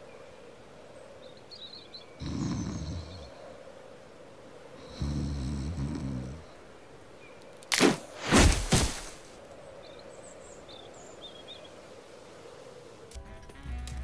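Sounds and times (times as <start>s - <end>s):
faint bird chirps: 0.0s - 7.7s, 9.4s - 13.1s.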